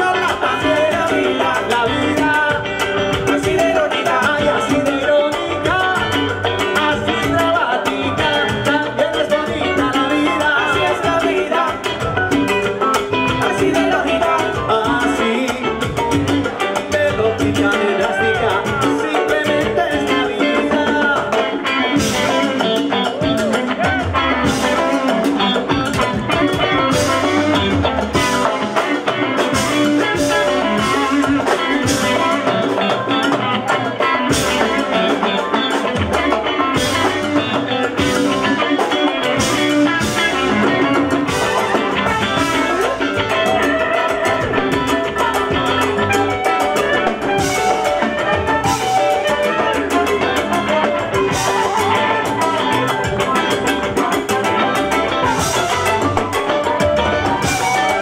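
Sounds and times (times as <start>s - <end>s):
congas: 0.0s - 58.0s
drum kit: 0.0s - 58.0s
electric guitar: 0.0s - 58.0s.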